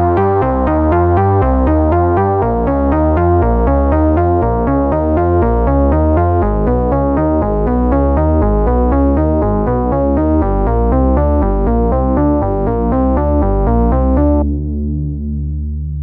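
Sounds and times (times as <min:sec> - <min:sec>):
sawtooth synthesizer sequence: 0:00.0 - 0:15.8
low bass notes: 0:00.0 - 0:16.0.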